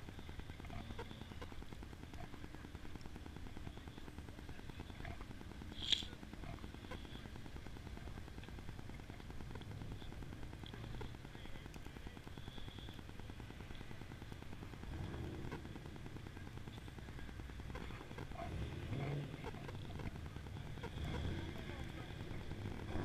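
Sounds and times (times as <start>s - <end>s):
car engines running low: 0.0s - 23.0s.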